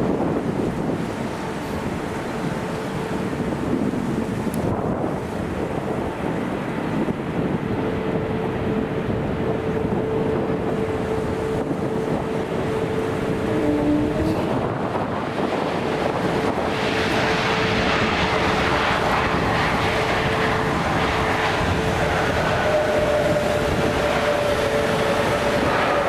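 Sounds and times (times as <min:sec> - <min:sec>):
jet airliner engines rumbling: 0:00.0 - 0:26.0
wind buffeting microphone: 0:00.0 - 0:26.0.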